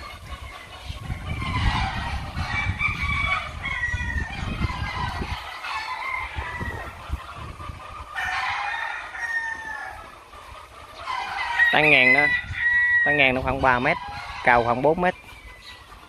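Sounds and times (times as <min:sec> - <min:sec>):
roosters crowing: 0:00.0 - 0:16.0.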